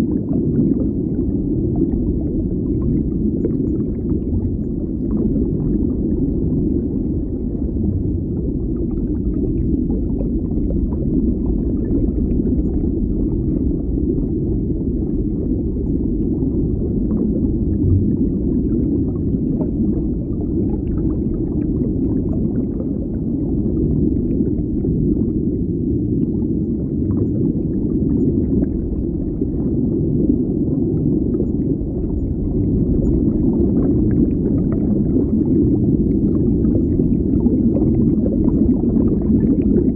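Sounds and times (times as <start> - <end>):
underwater moving water rumble: 0.0 - 39.9.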